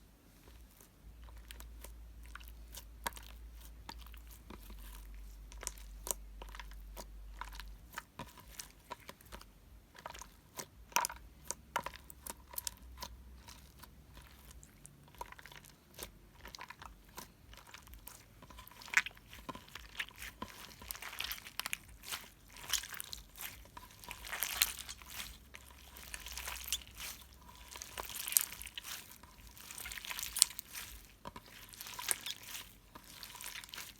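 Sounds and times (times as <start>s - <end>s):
slime crackling and popping: 0.4s - 33.9s.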